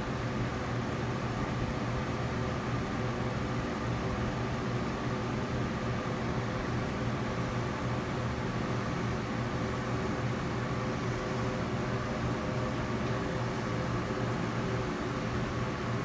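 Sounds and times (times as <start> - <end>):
machine hum with hiss: 0.0 - 16.0.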